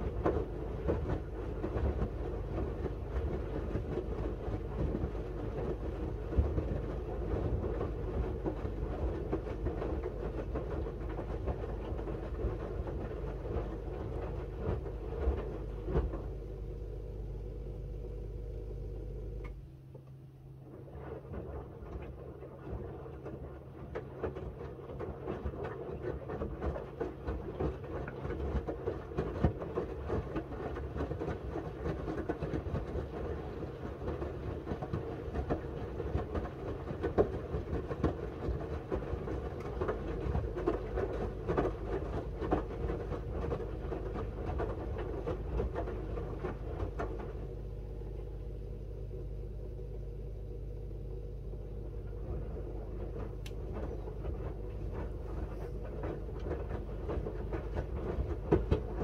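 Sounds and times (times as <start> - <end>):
laundry tumbling and sloshing: 0.0 - 18.3, 20.6 - 48.2, 50.8 - 59.0
washing machine motor hum: 0.0 - 59.0.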